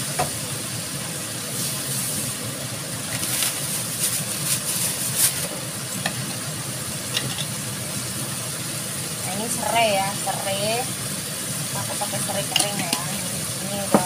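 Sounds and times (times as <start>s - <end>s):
sauce bubbling in a wok: 0.0s - 13.8s.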